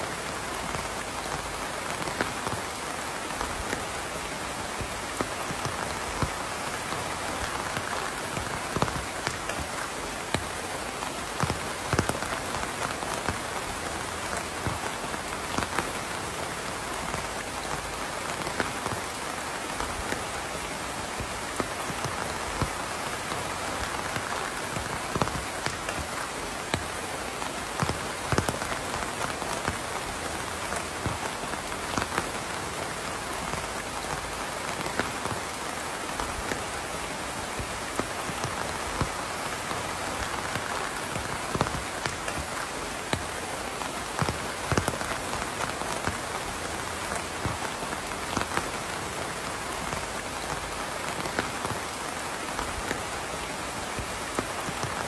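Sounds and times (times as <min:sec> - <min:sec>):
raindrops landing close by: 0:00.0 - 0:55.0
steady rain falling: 0:00.0 - 0:55.0.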